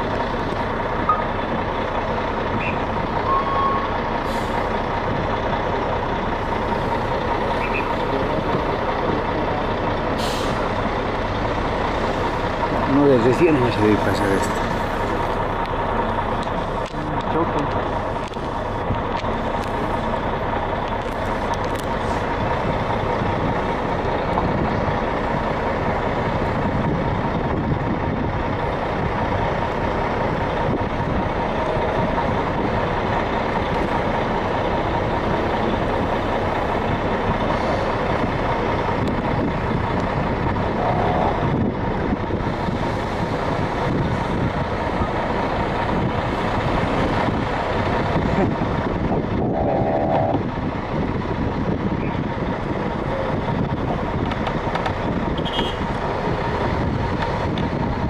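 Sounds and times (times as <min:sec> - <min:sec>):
heavy vehicle engine idling: 0:00.0 - 0:58.0.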